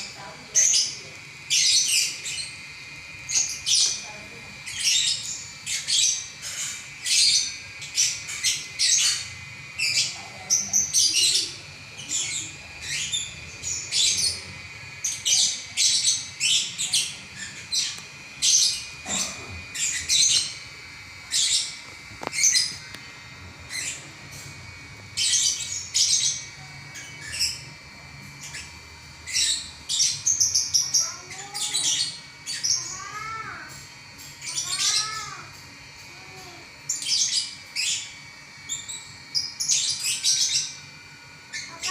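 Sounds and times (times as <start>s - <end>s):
bird chattering song: 0.0s - 41.9s.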